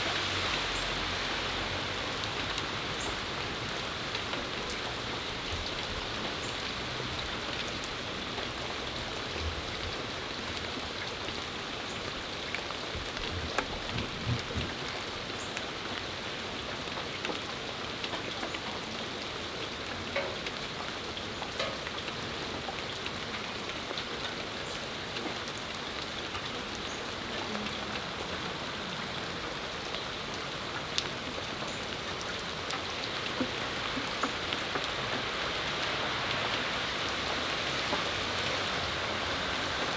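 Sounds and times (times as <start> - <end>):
heavier water drips: 0.0 - 39.9
rain pattering on surfaces: 0.0 - 39.9.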